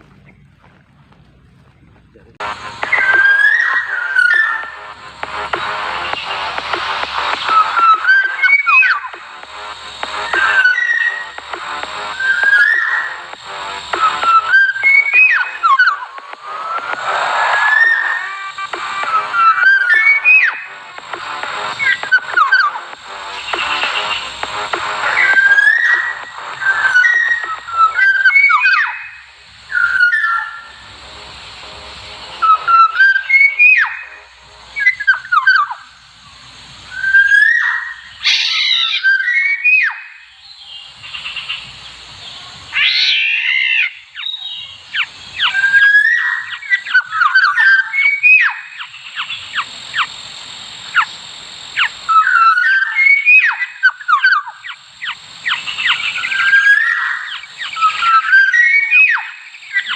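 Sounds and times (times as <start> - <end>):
harsh bird calls: 1.5 - 50.2, 50.8 - 59.9
bird fluty whistled calls: 2.4 - 31.2, 32.3 - 50.2, 50.9 - 59.9.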